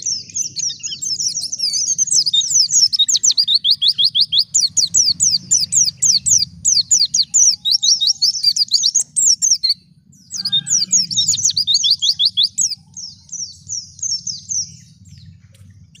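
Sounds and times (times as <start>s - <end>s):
bird twittering song: 0.0s - 16.0s
low steady rumble: 0.0s - 16.0s.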